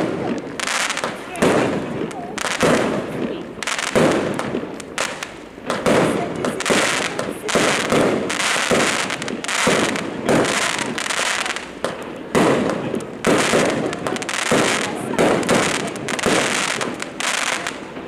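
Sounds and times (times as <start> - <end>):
fireworks bangs: 0.0 - 18.0
hissing crackling tails: 0.0 - 18.0.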